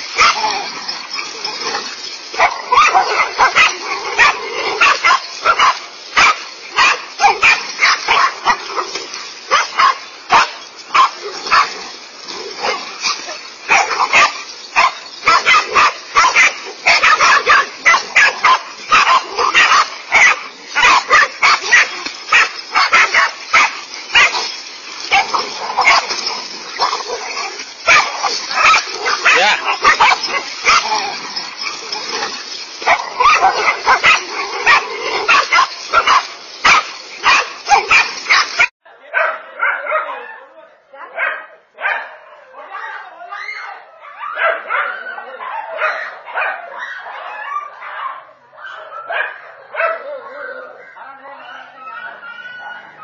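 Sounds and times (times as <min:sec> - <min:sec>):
dogs barking and yapping: 0:00.0 - 0:53.0.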